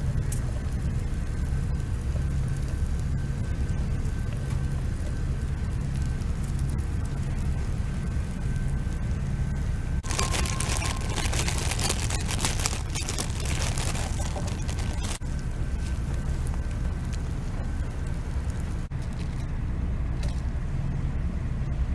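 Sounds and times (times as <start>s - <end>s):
campfire crackling and popping: 0.0s - 9.3s, 10.0s - 19.2s
low rumble: 0.0s - 21.9s.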